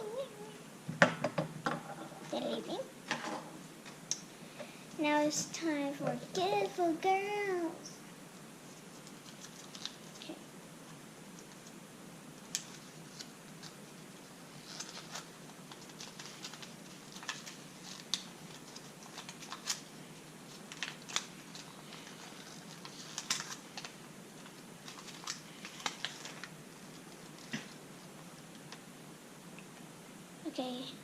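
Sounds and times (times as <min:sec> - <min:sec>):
steady hiss: 0:02.2 - 0:31.0.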